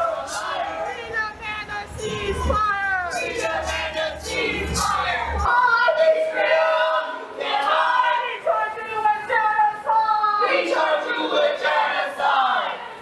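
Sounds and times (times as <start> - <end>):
crowd chanting: 0.0 - 13.0.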